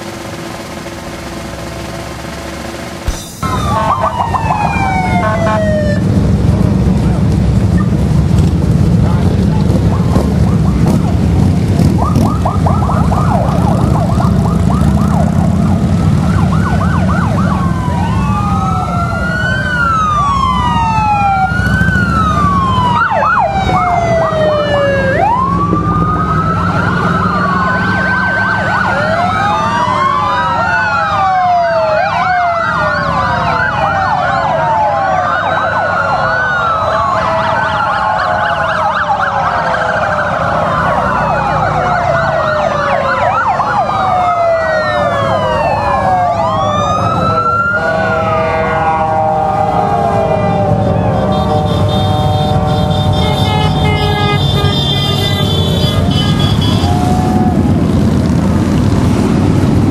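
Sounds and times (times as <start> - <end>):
emergency sirens wailing: 0.0 - 59.9
motorcycles rumbling: 0.0 - 59.9.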